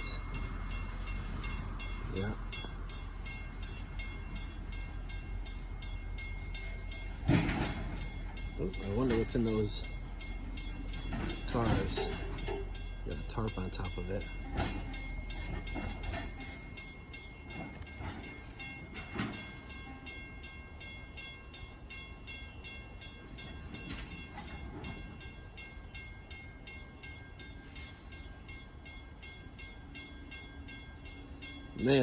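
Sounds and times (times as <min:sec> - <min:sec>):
freight train rumbling: 0:00.0 - 0:32.0
railroad crossing bell ringing: 0:00.0 - 0:32.0.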